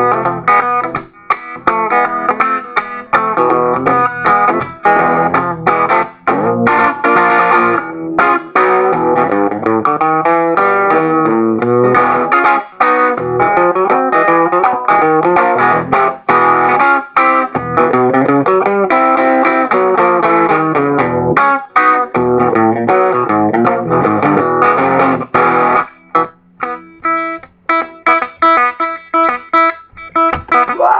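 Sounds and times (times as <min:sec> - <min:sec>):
electric guitar blues tune: 0:00.0 - 0:30.9.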